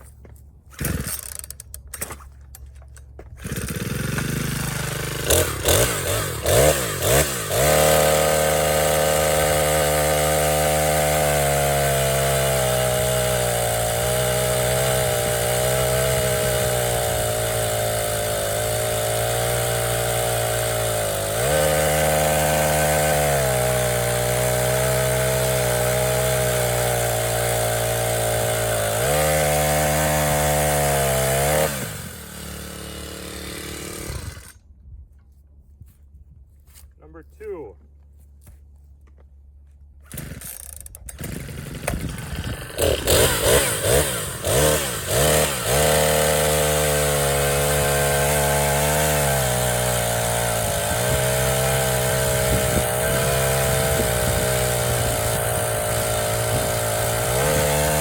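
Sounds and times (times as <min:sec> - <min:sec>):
chainsaw engine revving: 0:00.7 - 0:01.7, 0:03.4 - 0:34.6, 0:40.1 - 0:58.0.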